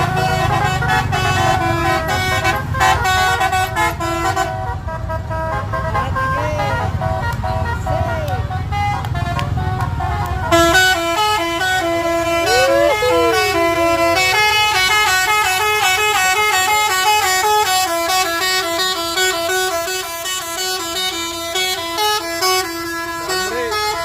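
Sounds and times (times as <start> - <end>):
bus multi-tone air horn tune: 0.0 - 8.0, 8.6 - 24.0.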